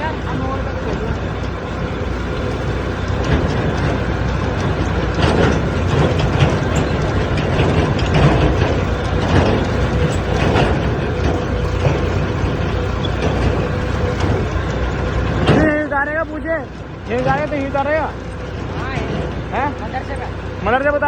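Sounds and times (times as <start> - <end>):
loose metal parts rattling: 0.0 - 21.0
tractor diesel engine rumbling: 0.0 - 21.0.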